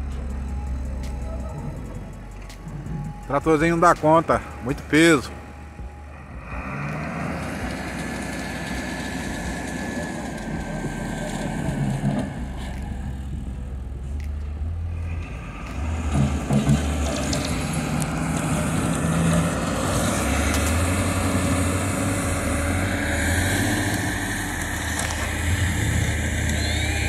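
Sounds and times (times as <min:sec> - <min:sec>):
diesel engines humming: 0:00.0 - 0:27.0.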